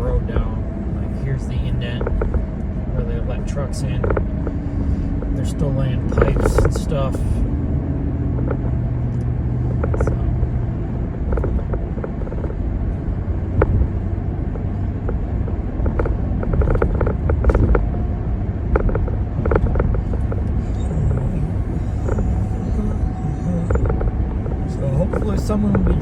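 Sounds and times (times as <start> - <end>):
tyre and engine rumble: 0.0 - 26.0.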